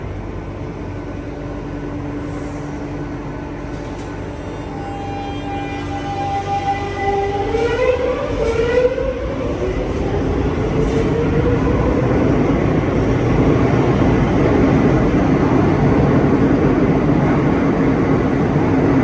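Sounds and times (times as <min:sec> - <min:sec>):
train hum: 0:00.0 - 0:19.0.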